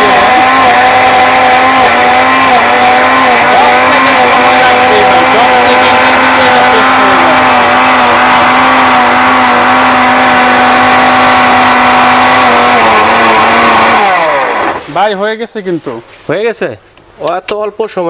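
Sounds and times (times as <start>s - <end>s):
mixer grinder whining: 0.0s - 15.2s.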